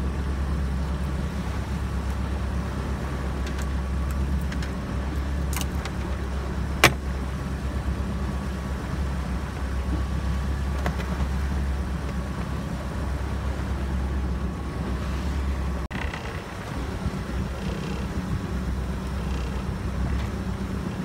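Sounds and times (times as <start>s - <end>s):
boat engine low rumble: 0.0s - 21.0s
water noise: 0.0s - 21.0s
wind: 0.0s - 21.0s.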